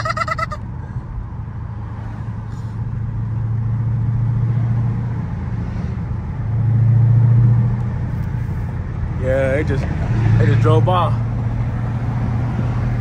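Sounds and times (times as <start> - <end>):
car engine low exhaust drone: 0.0 - 13.0.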